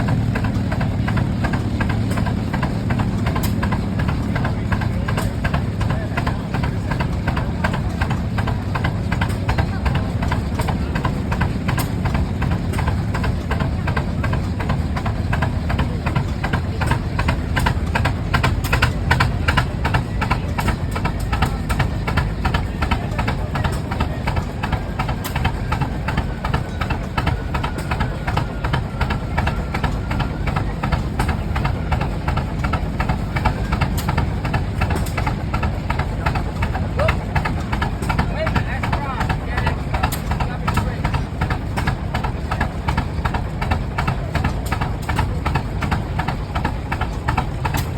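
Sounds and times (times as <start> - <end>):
tractor engines knocking rhythmically: 0.0 - 47.9.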